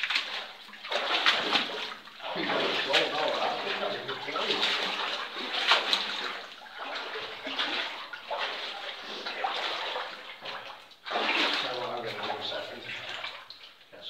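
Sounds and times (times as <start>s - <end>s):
footsteps wading through water: 0.0s - 13.9s.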